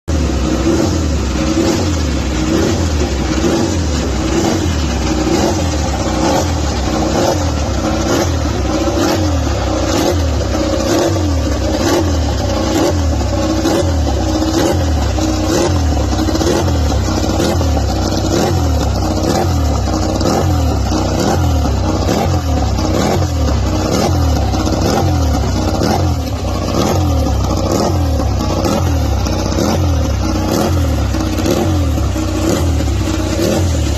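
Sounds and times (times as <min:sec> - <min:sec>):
racing engine revving: 0:00.1 - 0:33.9.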